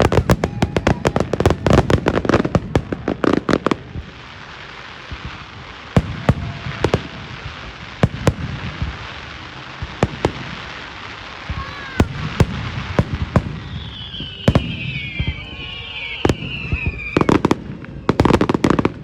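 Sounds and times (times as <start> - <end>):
firework bangs: 0.0 - 19.0
firework hiss: 0.0 - 19.0
rapid firework cracks: 0.0 - 19.0.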